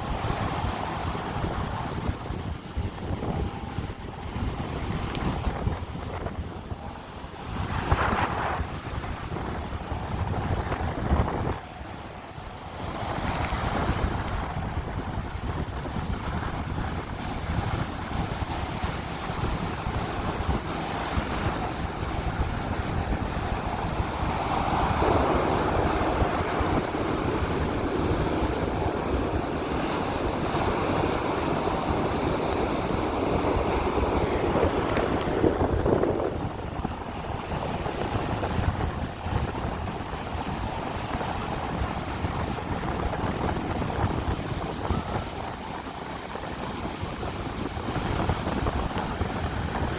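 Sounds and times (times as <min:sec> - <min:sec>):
ocean surf washing in: 0:00.0 - 0:49.9
wind buffeting microphone: 0:00.0 - 0:49.9.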